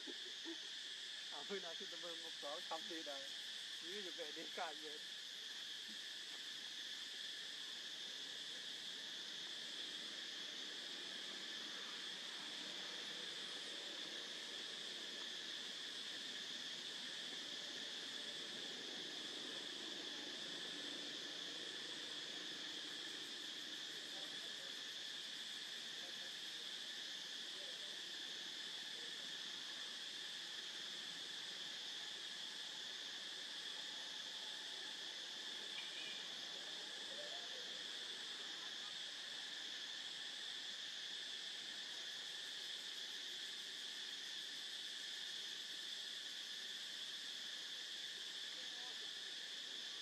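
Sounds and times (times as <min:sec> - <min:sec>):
insect chorus buzzing: 0:00.0 - 0:50.0.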